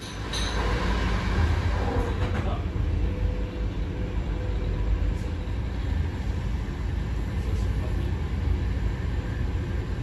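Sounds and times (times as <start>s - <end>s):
train rumble from inside carriage: 0.0s - 10.0s.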